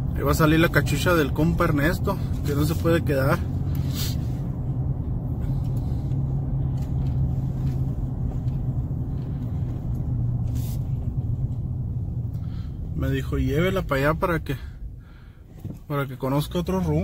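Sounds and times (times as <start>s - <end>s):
car engine and road rumble: 0.0s - 17.0s
constant low hum: 0.0s - 17.0s.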